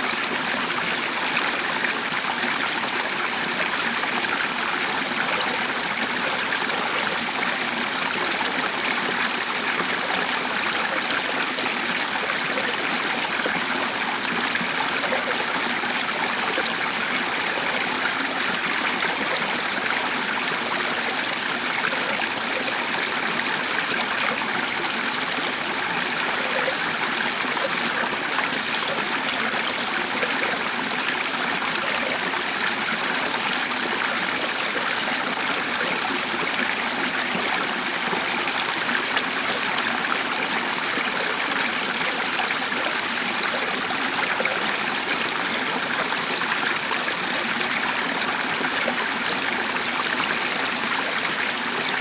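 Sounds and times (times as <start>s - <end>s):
stream flowing: 0.0s - 52.0s.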